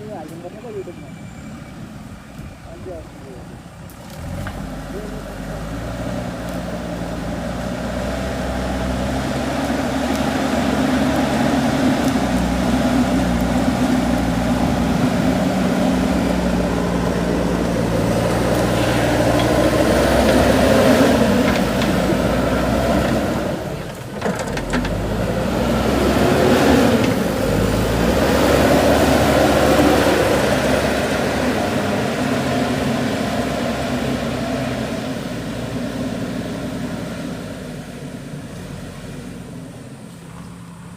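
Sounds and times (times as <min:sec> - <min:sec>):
backhoe diesel engine revving: 0:03.9 - 0:40.9.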